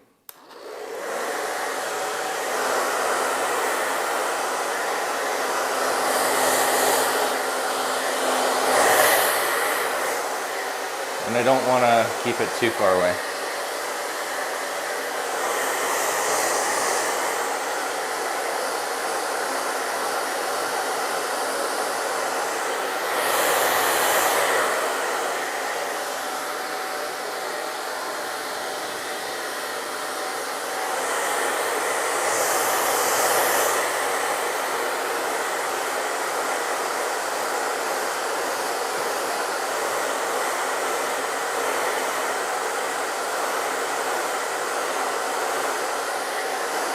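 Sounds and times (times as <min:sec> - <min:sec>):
hair dryer blowing: 0:00.0 - 0:46.9.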